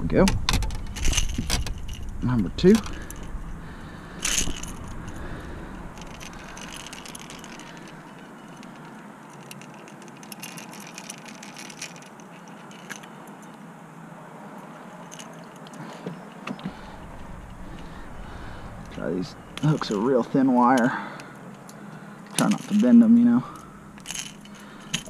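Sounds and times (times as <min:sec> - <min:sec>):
metal hooks clicking and scraping: 0:00.2 - 0:13.7, 0:14.6 - 0:25.0.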